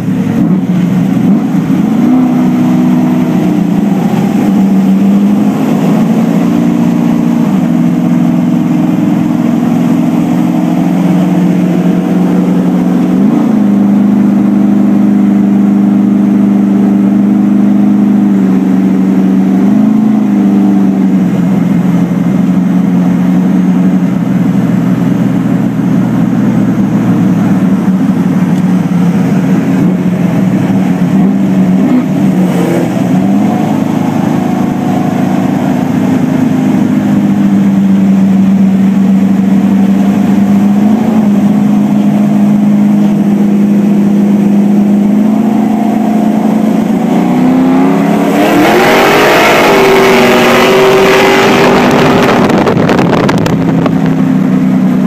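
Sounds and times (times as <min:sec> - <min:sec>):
car engine running hard: 0:00.0 - 0:55.0
road noise: 0:00.0 - 0:55.0.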